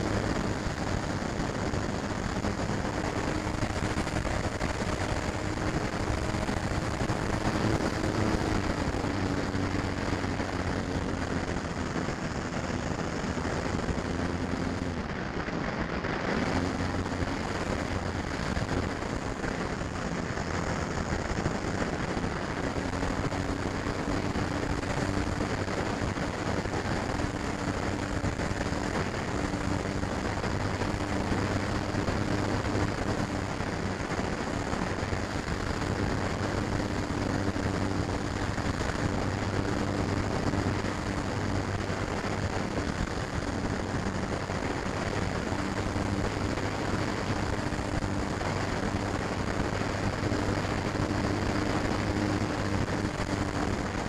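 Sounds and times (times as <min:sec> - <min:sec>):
model plane electric motor: 0:00.0 - 0:54.0
wind rushing over microphone: 0:00.0 - 0:54.0.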